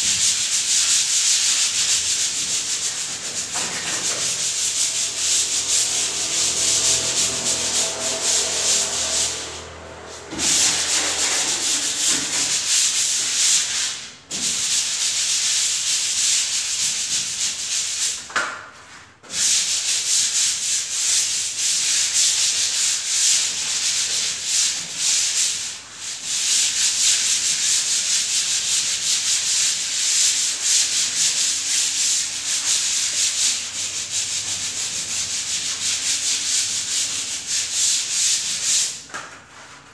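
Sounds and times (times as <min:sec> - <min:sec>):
sandpaper scratching: 0:00.0 - 0:18.2, 0:19.4 - 0:39.0.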